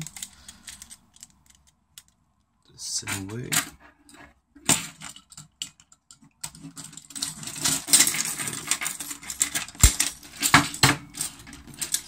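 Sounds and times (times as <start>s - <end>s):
small metallic clicks and scraping: 0.0s - 12.0s.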